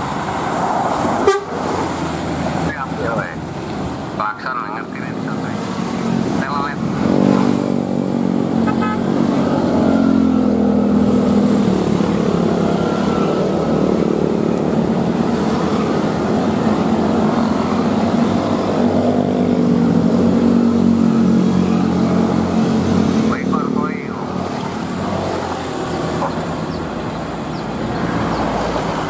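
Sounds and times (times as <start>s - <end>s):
motorcycles riding past: 0.0s - 29.0s.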